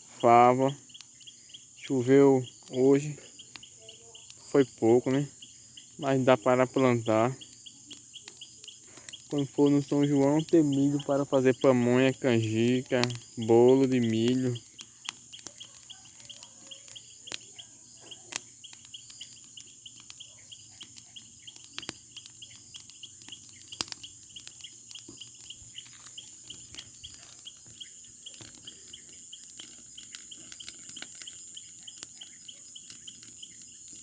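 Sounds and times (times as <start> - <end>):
bonfire crackling and popping: 0.0 - 34.0
crickets chirping: 0.0 - 34.0.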